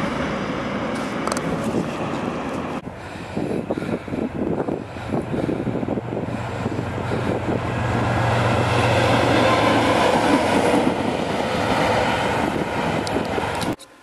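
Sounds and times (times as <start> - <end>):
diesel locomotive engine humming: 0.0 - 14.0
wheel-on-rail noise: 0.0 - 14.0.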